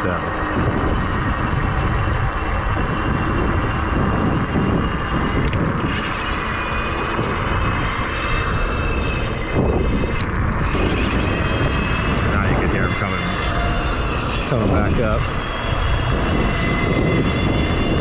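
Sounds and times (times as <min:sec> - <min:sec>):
electric bike motor whining: 0:00.0 - 0:18.0
wind noise on microphone: 0:00.0 - 0:18.0.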